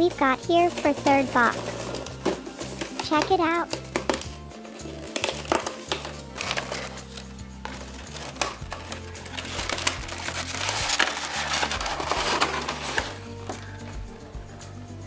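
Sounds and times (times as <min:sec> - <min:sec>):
soft background music: 0:00.0 - 0:15.0
packaging rustling: 0:00.6 - 0:13.9.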